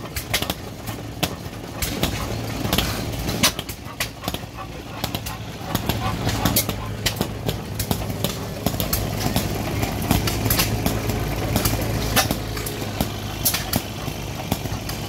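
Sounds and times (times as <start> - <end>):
hit-and-miss engine running: 0.0 - 15.0.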